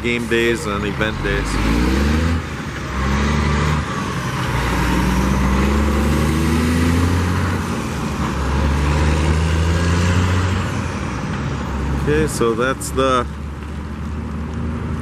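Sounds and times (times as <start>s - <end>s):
engine note rising: 0.0s - 12.4s
road traffic passing: 0.0s - 15.0s.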